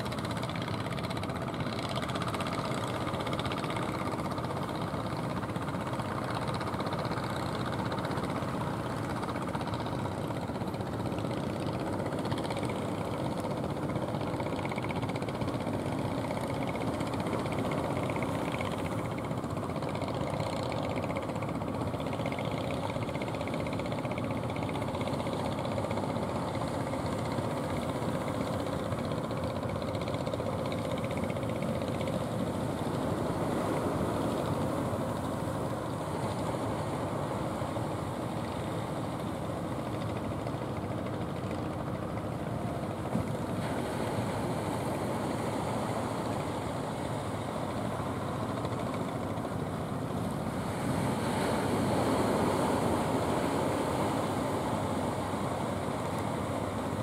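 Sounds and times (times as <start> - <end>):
boat engines droning: 0.0 - 57.0.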